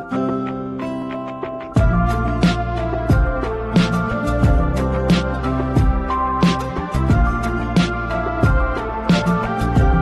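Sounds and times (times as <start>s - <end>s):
instrumental background music: 0.0s - 10.0s
deep bass: 1.8s - 10.0s
steady drum beat: 1.8s - 10.0s.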